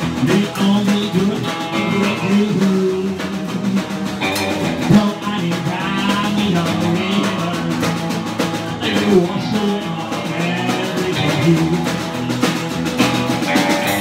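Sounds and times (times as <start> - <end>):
drum kit: 0.0 - 14.0
electric guitar: 0.0 - 14.0.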